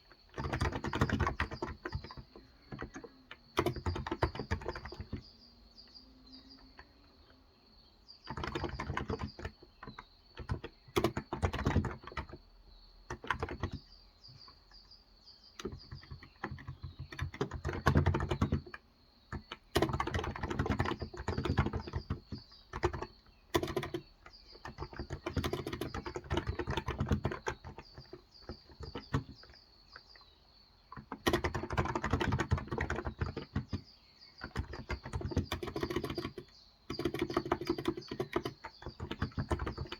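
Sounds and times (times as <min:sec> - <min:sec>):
keyboard typing: 0:00.0 - 0:05.4, 0:08.3 - 0:12.4, 0:13.1 - 0:14.8, 0:15.6 - 0:30.2, 0:30.9 - 0:39.9
faint high chirping: 0:00.0 - 0:39.9.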